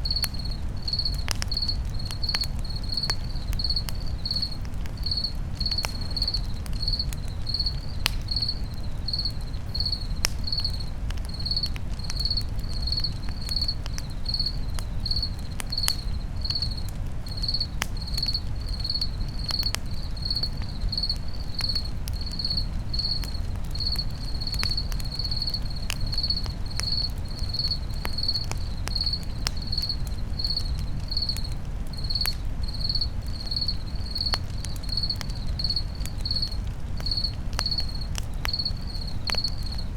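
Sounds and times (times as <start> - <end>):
campfire crackling: 0.0 - 39.9
cricket chirping: 0.0 - 39.9.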